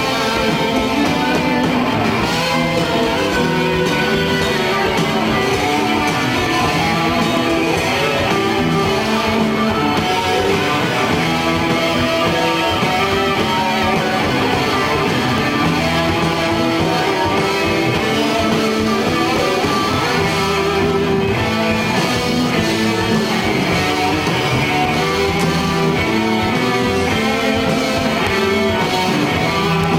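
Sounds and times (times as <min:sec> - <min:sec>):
distorted electric guitars: 0:00.0 - 0:29.9
live rock band playing: 0:00.0 - 0:29.9.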